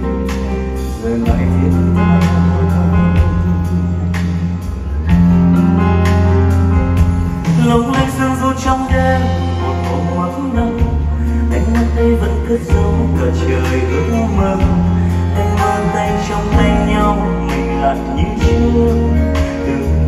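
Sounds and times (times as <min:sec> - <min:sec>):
band and orchestra playing ballad: 0:00.0 - 0:20.0
drum kit: 0:00.0 - 0:20.0
piano: 0:00.0 - 0:20.0
sustained bass notes: 0:00.0 - 0:20.0.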